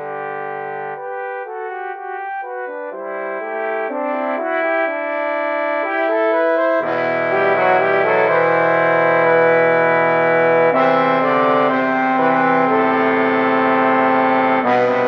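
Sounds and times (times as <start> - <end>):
trombone ensemble playing: 0.0 - 15.0.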